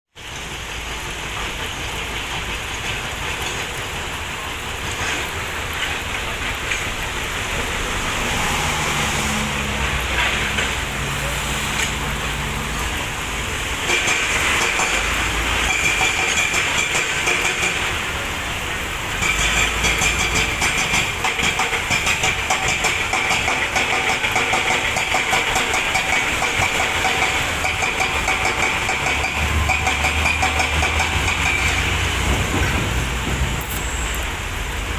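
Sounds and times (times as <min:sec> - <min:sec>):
excavator engine and machinery: 0:00.2 - 0:34.9.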